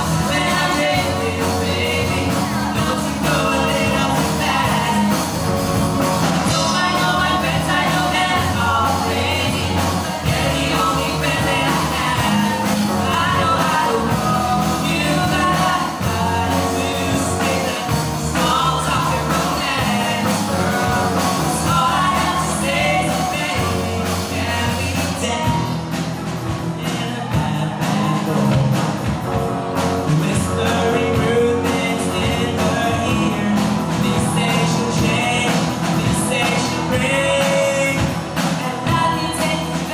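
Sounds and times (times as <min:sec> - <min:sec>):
person singing: 0:00.0 - 0:29.4, 0:30.0 - 0:39.9
drums: 0:00.0 - 0:39.9
electric guitars: 0:00.0 - 0:39.9
keyboard: 0:00.0 - 0:39.9.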